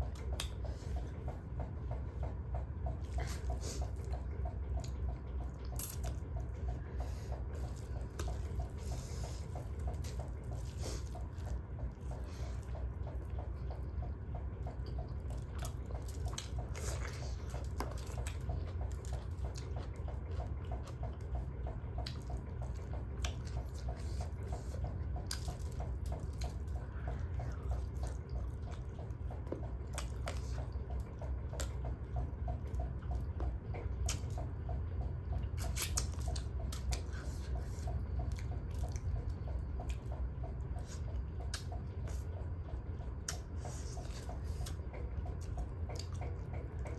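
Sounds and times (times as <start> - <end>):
chewing and wet mouth noises: 0.0 - 46.9
steady low hum: 0.0 - 46.9.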